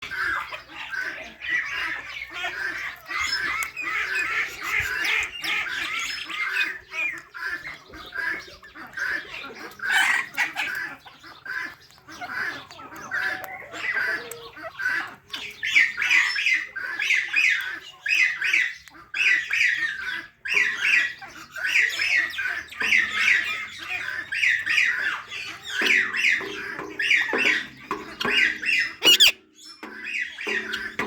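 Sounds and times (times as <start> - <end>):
parrot chirping and squawking: 0.0 - 31.0.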